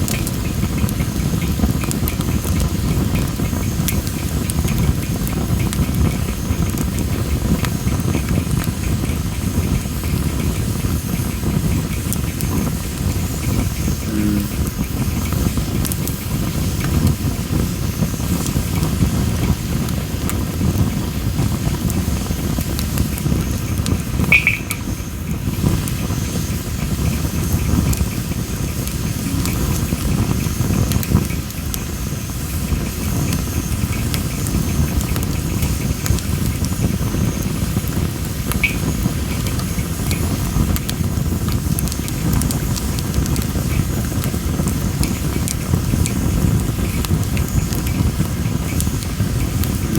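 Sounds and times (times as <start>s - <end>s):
campfire crackling and popping: 0.0s - 49.9s
low rumble of flames: 0.0s - 49.9s.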